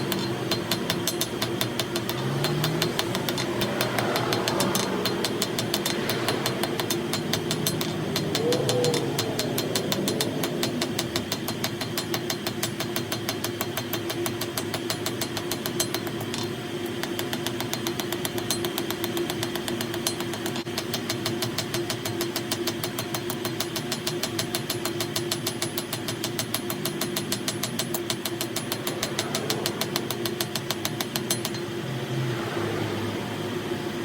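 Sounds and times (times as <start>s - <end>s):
machine knocking: 0.0s - 31.8s
machine hum: 0.0s - 34.0s.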